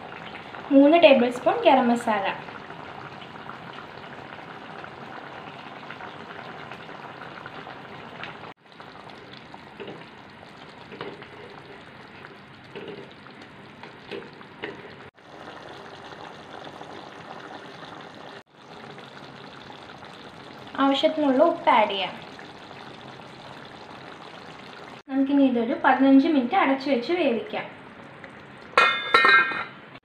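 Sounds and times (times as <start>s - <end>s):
gravy sizzling in a pan: 0.0s - 25.1s.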